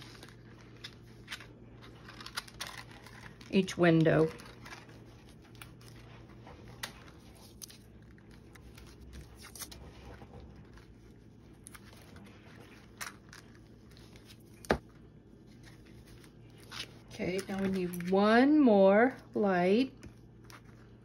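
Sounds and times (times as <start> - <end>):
cardboard and tape rustling: 0.0 - 18.4.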